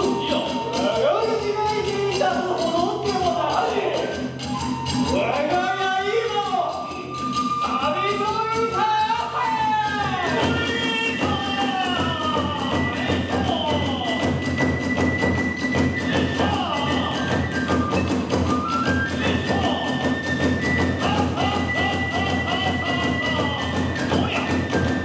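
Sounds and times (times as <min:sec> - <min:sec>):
bamboo flute melody: 0:00.0 - 0:25.0
fast drum beats: 0:00.0 - 0:25.0.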